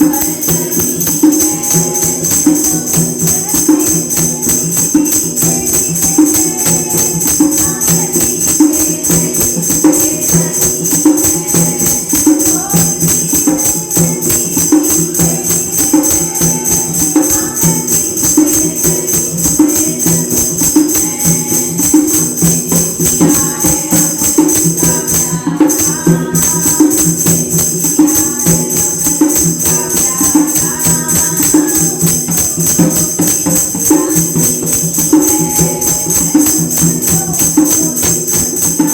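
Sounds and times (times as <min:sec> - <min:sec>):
fast rhythmic percussion: 0:00.0 - 0:38.9
women singing: 0:00.0 - 0:38.9.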